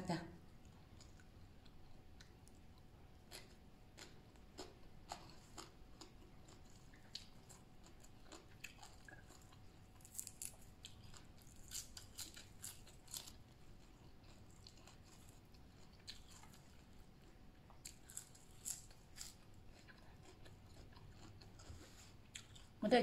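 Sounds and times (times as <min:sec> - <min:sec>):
person chewing crisp vegetables: 0:00.5 - 0:22.8.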